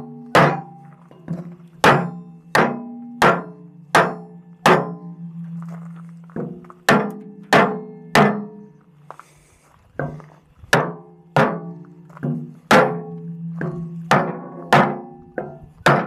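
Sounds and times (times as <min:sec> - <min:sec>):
sledgehammer knocking on wood block: 0:00.1 - 0:05.0, 0:06.4 - 0:08.6, 0:10.0 - 0:16.0.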